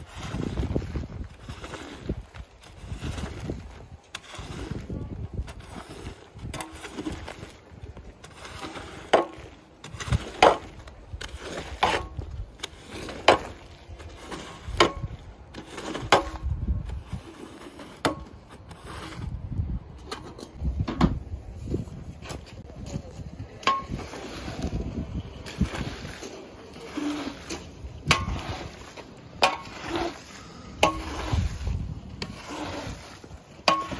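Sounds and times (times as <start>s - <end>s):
squeegee dragged across wet rug: 0.0s - 19.6s, 23.9s - 33.9s.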